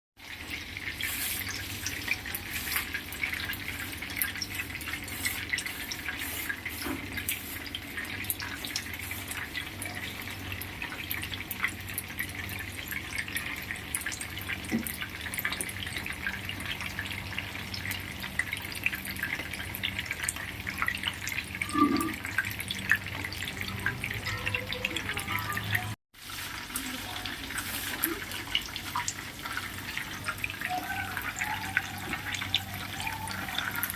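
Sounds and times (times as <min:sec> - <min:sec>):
chicken frying in hot oil: 0:00.2 - 0:33.9.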